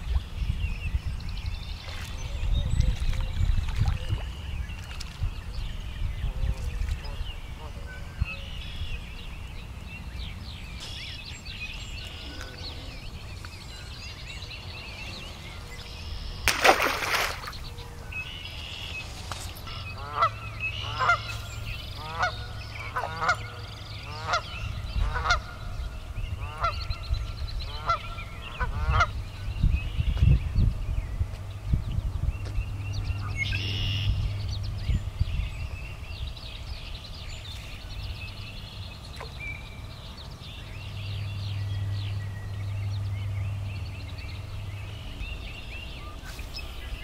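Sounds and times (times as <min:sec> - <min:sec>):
wind rumbling on microphone: 0:00.0 - 0:20.6, 0:21.3 - 0:47.0
small birds chirping: 0:00.0 - 0:47.0.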